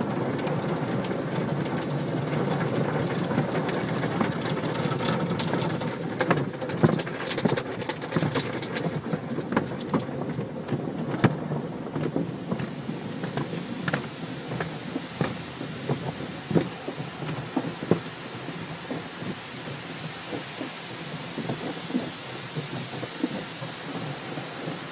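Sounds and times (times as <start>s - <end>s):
water spray drumming on car: 0.0s - 24.9s.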